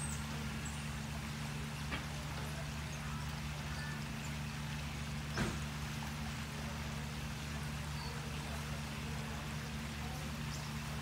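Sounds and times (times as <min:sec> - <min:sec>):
water splashing from pool jet: 0:00.0 - 0:11.0.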